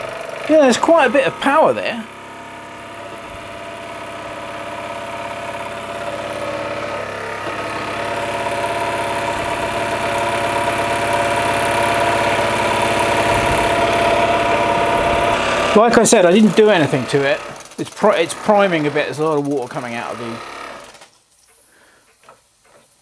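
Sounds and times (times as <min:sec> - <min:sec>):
model steam engine running fast: 0:00.0 - 0:21.0.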